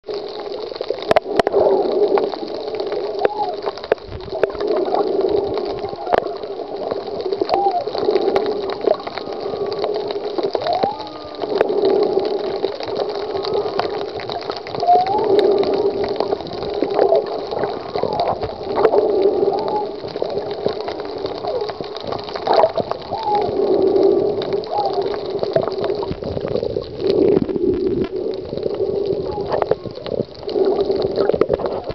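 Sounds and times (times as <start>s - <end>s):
muffled underwater gurgling: 0.0s - 31.9s.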